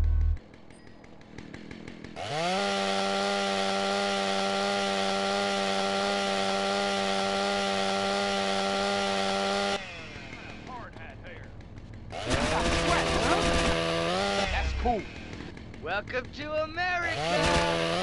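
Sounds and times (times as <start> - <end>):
chainsaw engine running: 0.0 - 18.0.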